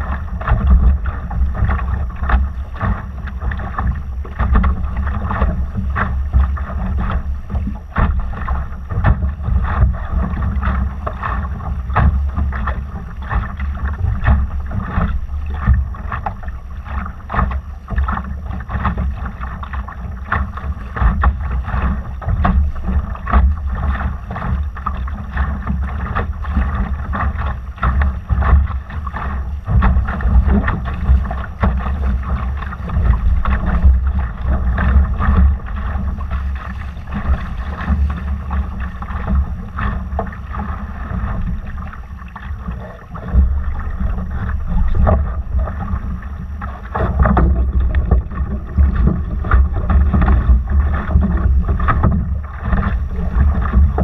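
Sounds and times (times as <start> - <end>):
water splashing against hull: 0.0 - 54.0
wind buffeting microphone: 0.0 - 54.0.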